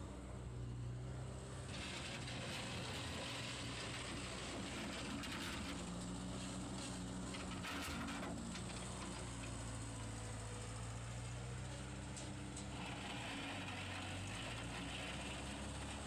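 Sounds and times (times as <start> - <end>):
skid steer engine running: 0.0 - 16.0.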